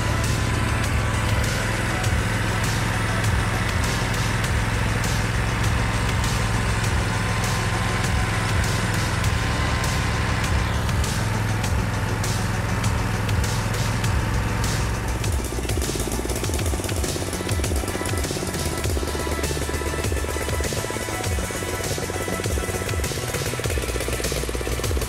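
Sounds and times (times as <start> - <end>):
string trimmer engines running: 0.0 - 25.0.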